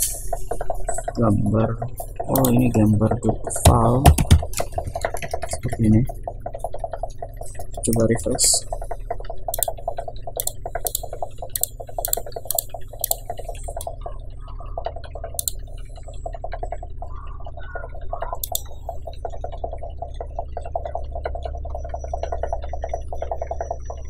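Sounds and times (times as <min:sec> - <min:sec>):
electrical hum: 0:00.0 - 0:24.0
computer mouse clicks: 0:01.9 - 0:23.8.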